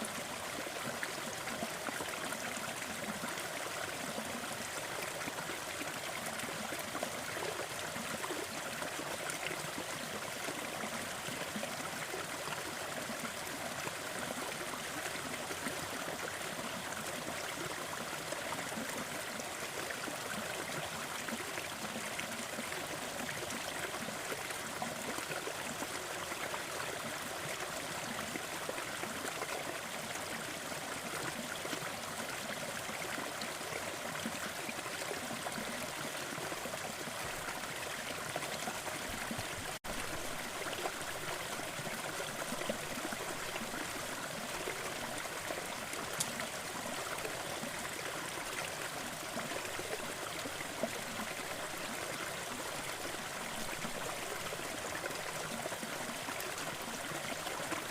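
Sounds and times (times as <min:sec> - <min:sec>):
small waterfall splashing: 0:00.0 - 0:57.9.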